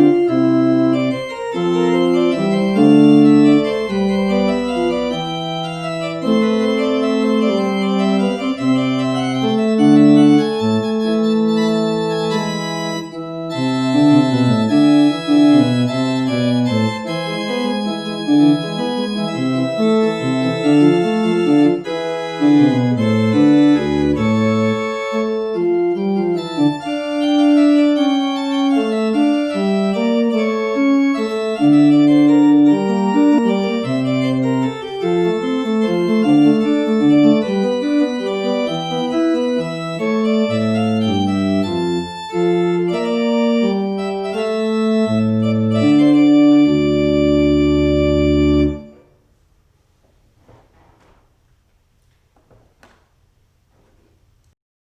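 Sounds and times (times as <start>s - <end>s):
organ music: 0.0s - 49.3s.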